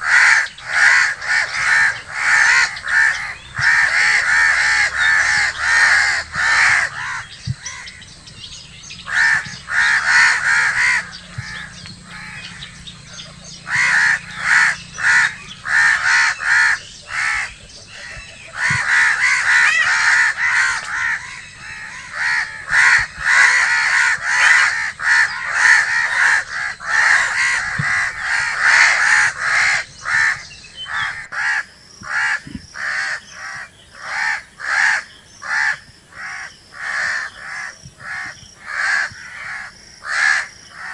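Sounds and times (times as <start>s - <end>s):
crows cawing: 0.0s - 40.9s.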